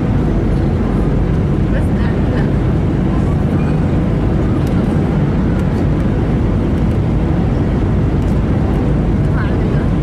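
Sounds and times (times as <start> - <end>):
airliner engine rumble: 0.0 - 10.0.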